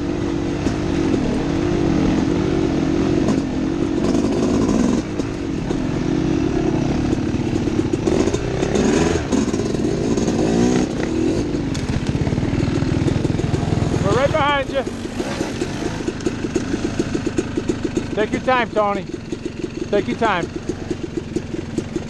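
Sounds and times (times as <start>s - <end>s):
clatter over rough ground: 0.0s - 22.0s
dirt bike engine revving: 0.0s - 22.0s.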